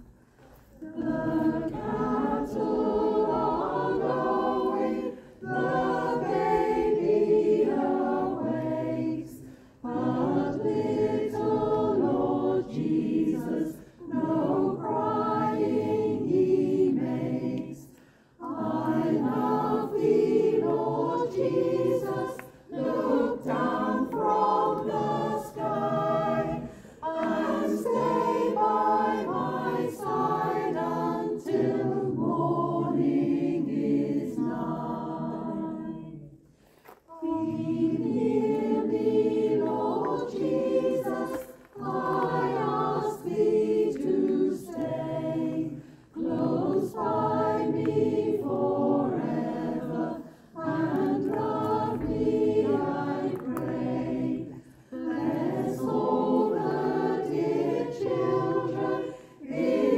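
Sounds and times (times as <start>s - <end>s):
choir singing unaccompanied: 0.8s - 36.4s, 37.1s - 59.9s.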